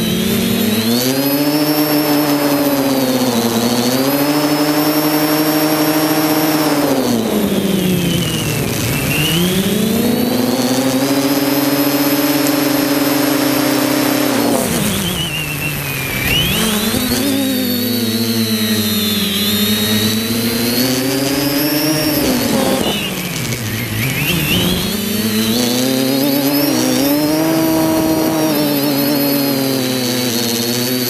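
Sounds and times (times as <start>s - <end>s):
quadcopter propellers whining: 0.0s - 31.0s.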